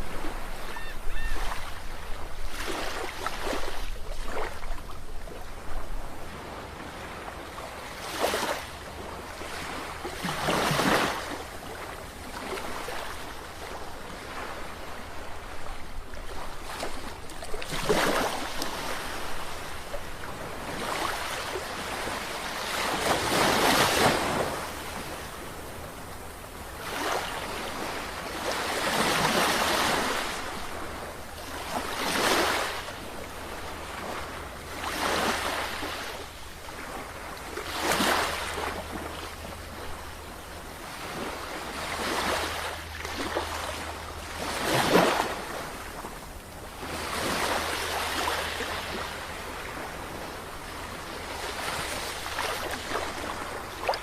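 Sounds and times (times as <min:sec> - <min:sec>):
sea waves breaking: 0:00.0 - 0:54.0.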